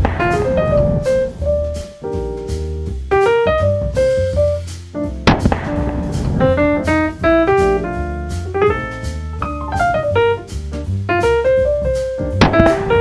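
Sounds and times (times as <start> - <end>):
bass line: 0.0 - 13.0
light drums: 0.0 - 13.0
piano melody: 0.0 - 13.0.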